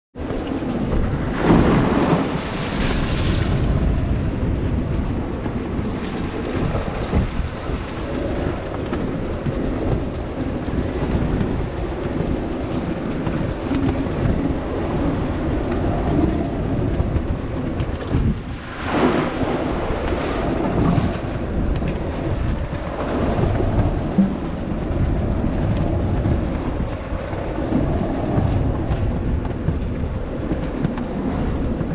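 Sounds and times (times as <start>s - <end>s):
waves splashing along hull: 0.2s - 31.9s
wind buffeting microphone: 0.2s - 31.9s.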